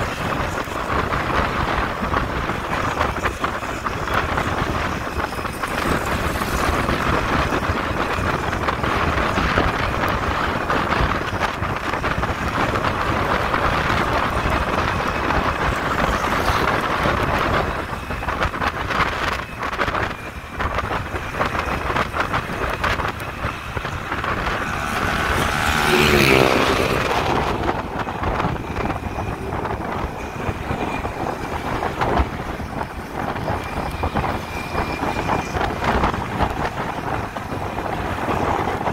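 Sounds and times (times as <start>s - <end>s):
road noise: 0.0s - 38.9s
wind buffeting microphone: 0.0s - 38.9s
motorcycle engine: 0.1s - 38.8s.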